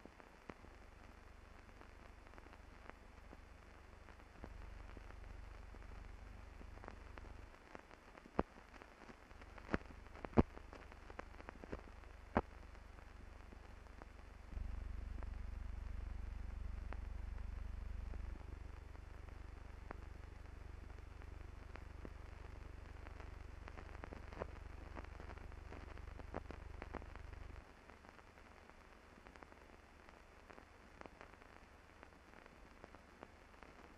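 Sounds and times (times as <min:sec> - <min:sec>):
film soundtrack hiss and hum: 0:00.0 - 0:33.9
sharp clicks and pops: 0:00.4 - 0:28.2.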